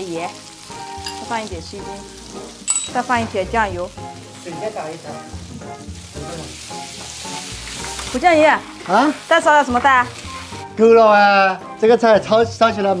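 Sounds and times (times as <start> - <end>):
sauce sizzling and spitting in a wok: 0.0 - 11.6.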